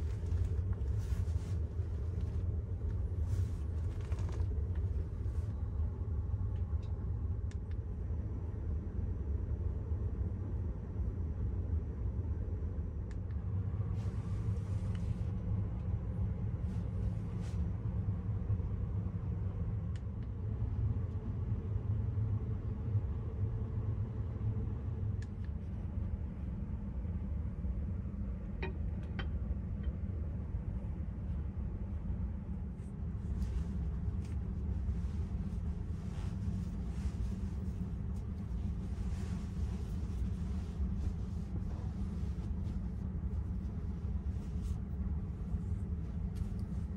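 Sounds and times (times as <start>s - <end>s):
steady low rumble: 0.0s - 46.9s.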